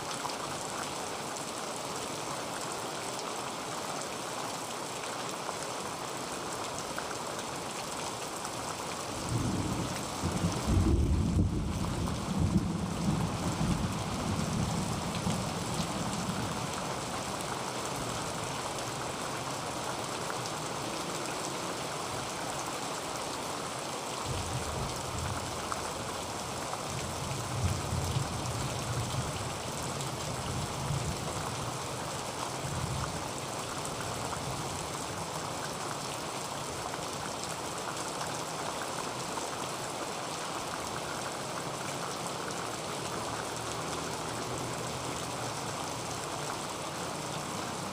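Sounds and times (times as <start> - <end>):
heavy rain on a tin roof: 0.0 - 47.9.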